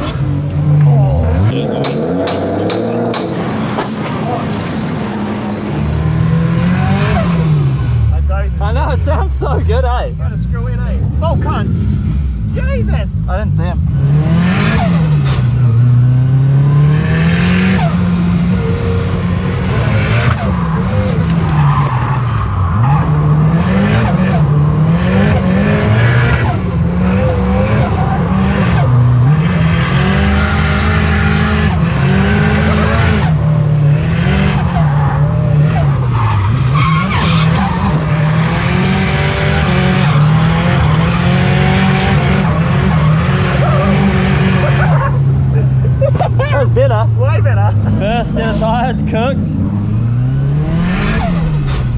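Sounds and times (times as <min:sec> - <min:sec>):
tyres squealing and skidding: 0:00.0 - 0:08.2, 0:14.0 - 0:51.9
turbocharged engine at high revs: 0:00.0 - 0:51.9.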